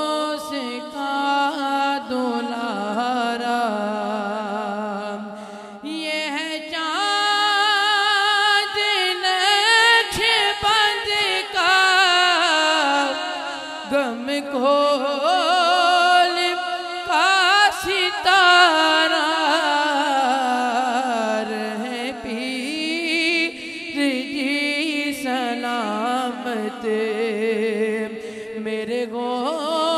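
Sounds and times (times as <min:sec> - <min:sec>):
man singing devotional song: 0:00.0 - 0:29.9.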